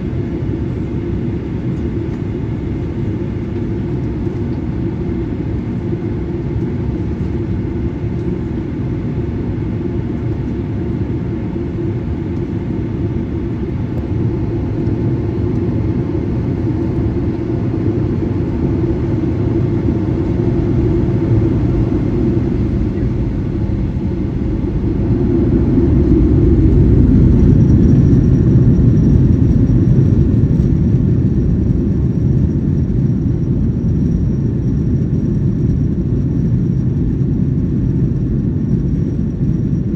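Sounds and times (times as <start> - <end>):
high steady whine: 0.0 - 39.9
jet engine rumble in cabin: 0.0 - 39.9.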